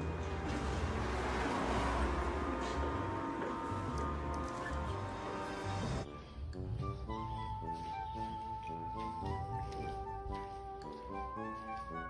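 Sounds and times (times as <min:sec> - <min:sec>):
background music with repeated chord: 0:00.0 - 0:12.0.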